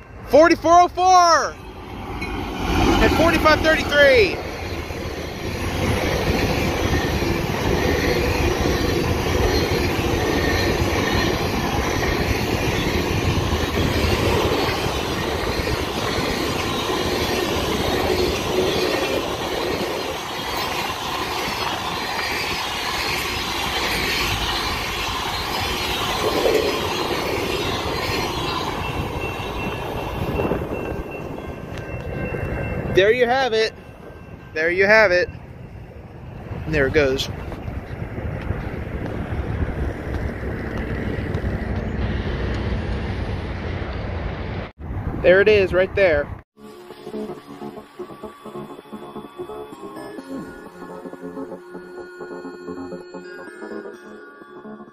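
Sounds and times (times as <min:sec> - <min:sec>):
train wheels rumbling on rails: 0:00.0 - 0:44.7.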